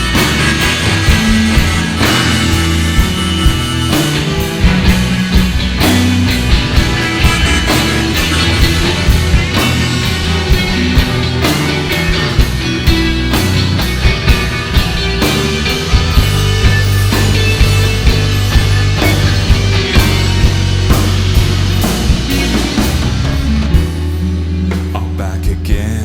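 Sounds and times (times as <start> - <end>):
drum kit hits: 0.0 - 26.0
rock band playing instrumental: 0.0 - 26.0.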